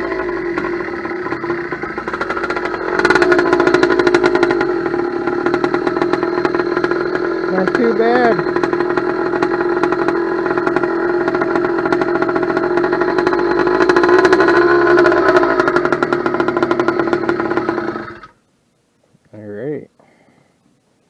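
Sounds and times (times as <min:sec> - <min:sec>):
two-stroke engine running: 0:00.0 - 0:18.4.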